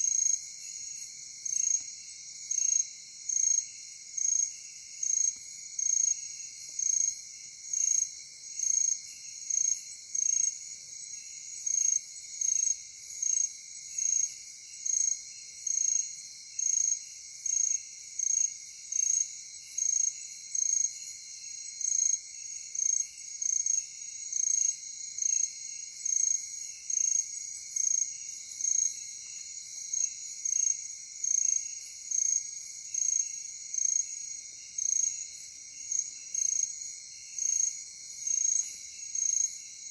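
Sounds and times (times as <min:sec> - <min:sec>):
insect chirp: 0:00.0 - 0:39.9
insect trill: 0:00.0 - 0:39.9.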